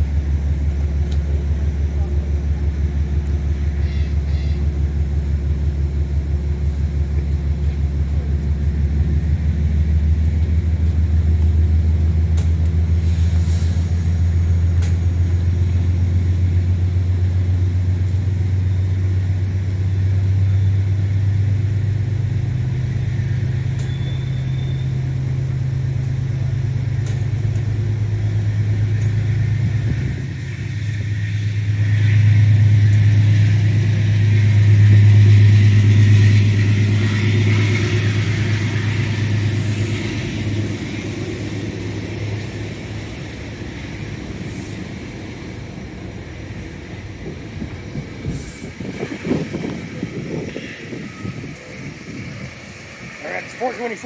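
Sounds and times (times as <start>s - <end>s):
diesel locomotive engine humming: 0.0s - 54.0s.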